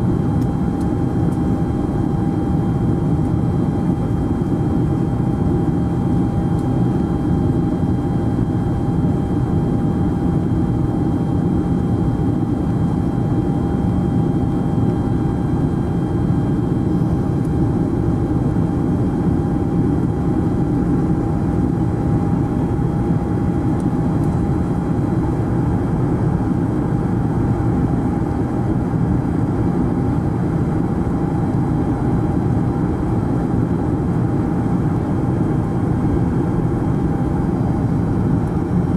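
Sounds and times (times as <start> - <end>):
engine and airflow rumble: 0.0 - 38.9.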